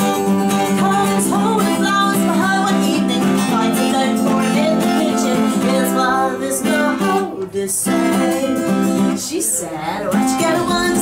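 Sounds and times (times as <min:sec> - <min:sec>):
strummed acoustic guitar: 0:00.0 - 0:11.0
woman singing: 0:00.0 - 0:11.0.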